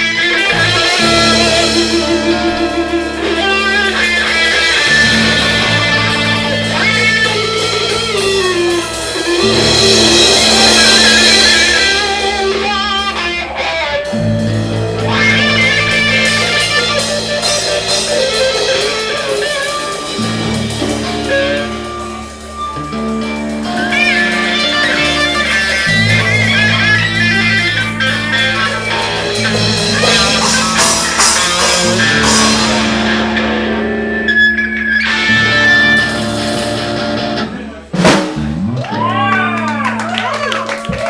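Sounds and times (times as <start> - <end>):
bass line: 0.0 - 41.0
electric guitar lines: 0.0 - 41.0.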